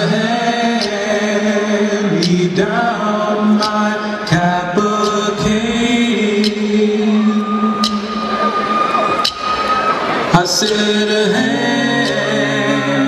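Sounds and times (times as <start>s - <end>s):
men singing in unison: 0.0s - 8.2s, 10.3s - 13.0s.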